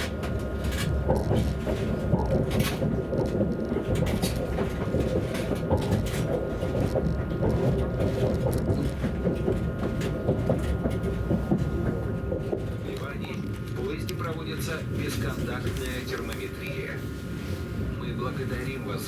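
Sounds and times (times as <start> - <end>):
wheels clicking and rattling on track: 0.0 - 17.1
train carriage low rumble: 0.0 - 19.0.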